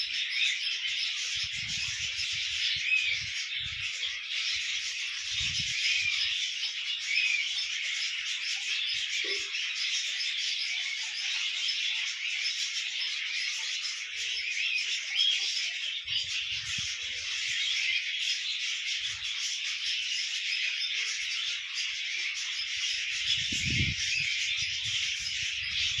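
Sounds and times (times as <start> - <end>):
birds chirping in chorus: 0.0 - 26.0.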